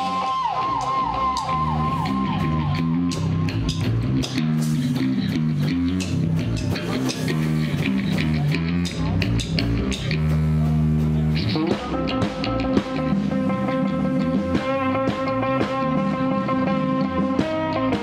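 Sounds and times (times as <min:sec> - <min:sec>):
rock band playing heavy riff: 0:00.0 - 0:18.0.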